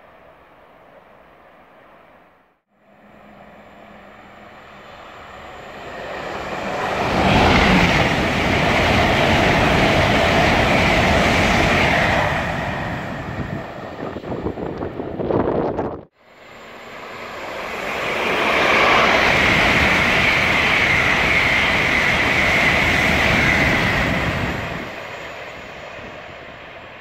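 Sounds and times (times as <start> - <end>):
train passing: 0.0 - 27.0.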